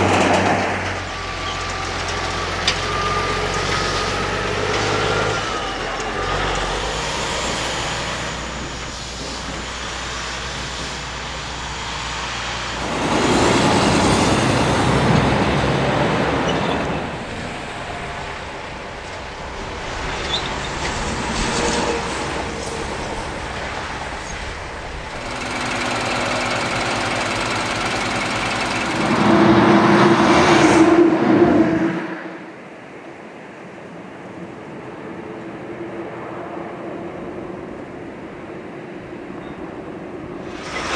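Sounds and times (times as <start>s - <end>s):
low diesel engine drone: 0.0s - 32.8s, 34.9s - 40.9s
heavy trucks driving past: 0.0s - 32.9s, 35.9s - 40.9s.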